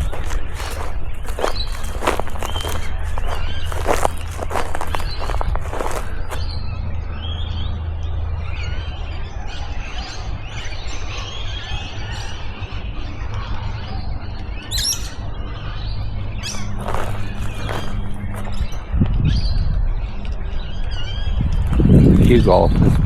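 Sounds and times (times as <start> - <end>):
birds chirping and calling: 0.0 - 7.8, 8.4 - 22.9.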